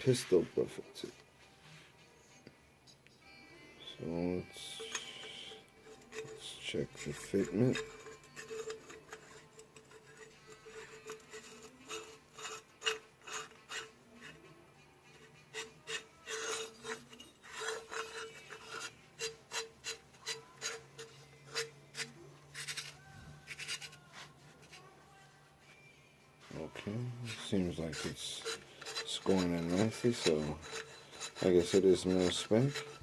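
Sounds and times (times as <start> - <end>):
metal threads scraping: 3.8 - 33.0.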